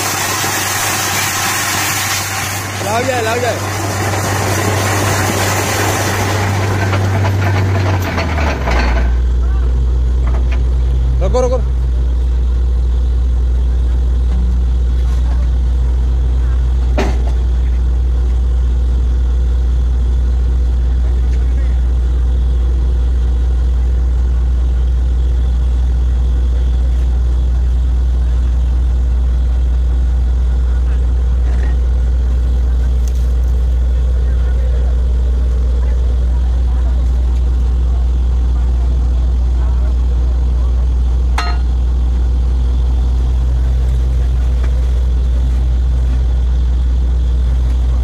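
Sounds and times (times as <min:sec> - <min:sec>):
diesel engine low rumble: 0:00.0 - 0:48.0.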